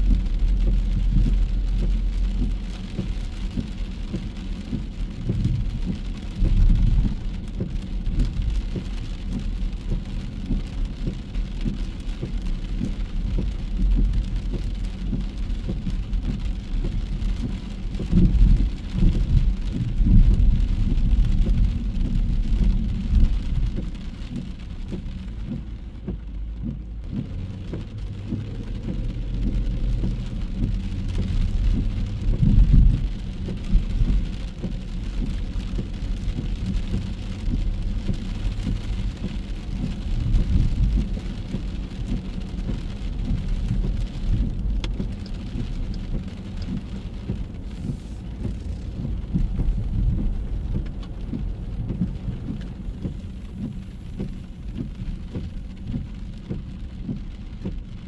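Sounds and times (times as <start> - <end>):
low rumble: 0.0 - 58.0
rain hissing: 0.0 - 58.0.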